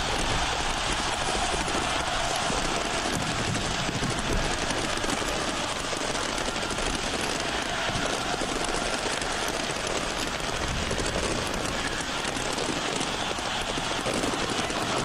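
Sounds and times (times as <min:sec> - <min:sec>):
firecrackers crackling: 0:00.0 - 0:15.0
stadium crowd cheering: 0:00.0 - 0:15.0.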